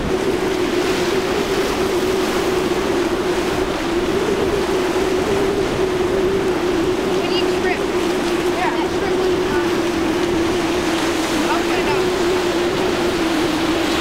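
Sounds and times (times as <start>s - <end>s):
boat engine drone: 0.0s - 14.0s
hiss of spray and rough water: 0.0s - 14.0s.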